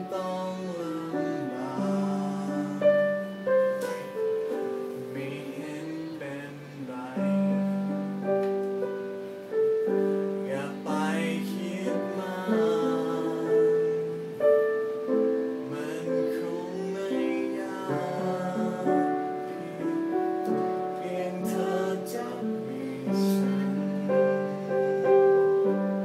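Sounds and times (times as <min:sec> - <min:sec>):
man singing a pop song: 0:00.0 - 0:04.2, 0:05.0 - 0:08.2, 0:10.4 - 0:14.2, 0:15.6 - 0:25.4
piano chords ringing: 0:00.0 - 0:26.0.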